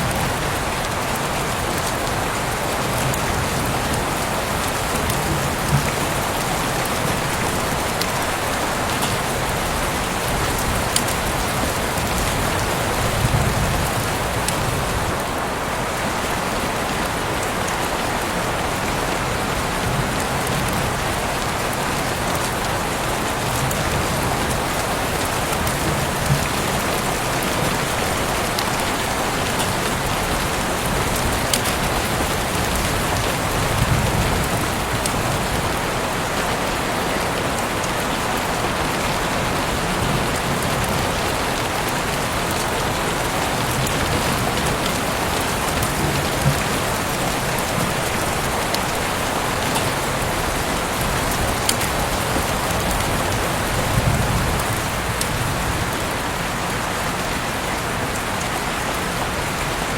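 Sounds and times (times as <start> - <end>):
sharp raindrops striking: 0.0 - 56.4
heavy rain pouring: 0.0 - 59.9.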